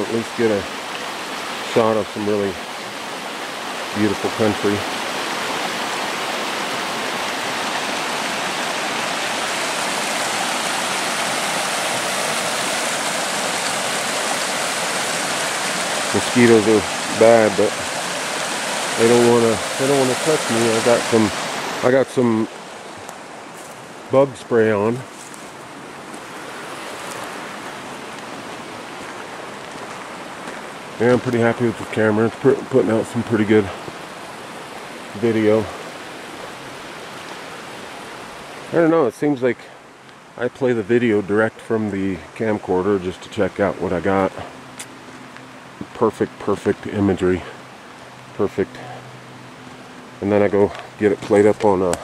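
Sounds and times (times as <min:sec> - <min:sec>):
creek water rushing: 0:00.0 - 0:52.0.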